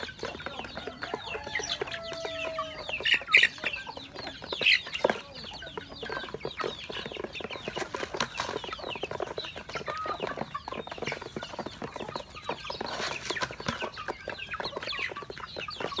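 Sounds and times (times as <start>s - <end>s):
beaks tapping on plastic feed dish: 0.0s - 16.0s
chicks cheeping: 0.0s - 16.0s.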